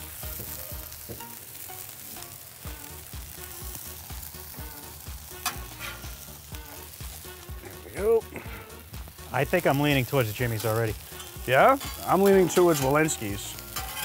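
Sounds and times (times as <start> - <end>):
background music with a beat: 0.0 - 12.5
meat sizzling on a griddle: 0.0 - 14.0.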